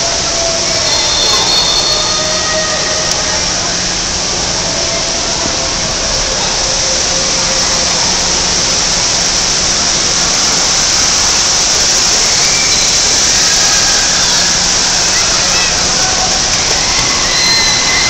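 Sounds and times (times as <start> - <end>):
loud rush of running water: 0.0 - 18.0.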